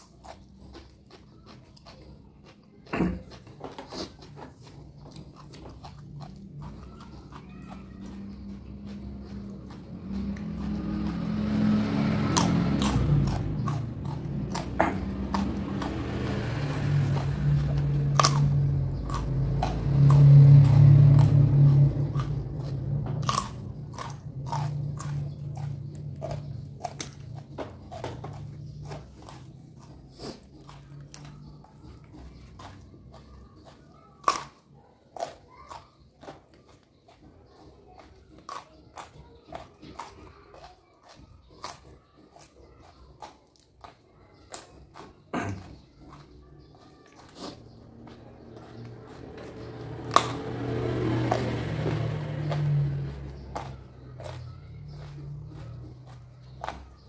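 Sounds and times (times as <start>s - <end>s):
person chewing crunchy vegetables: 0.0s - 57.0s.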